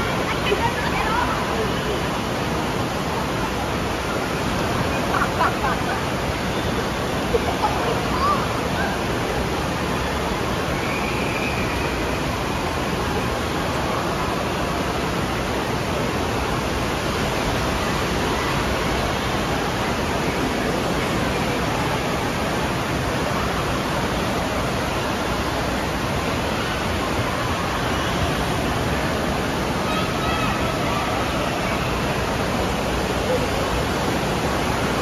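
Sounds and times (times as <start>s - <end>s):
water rushing and churning: 0.0s - 35.0s.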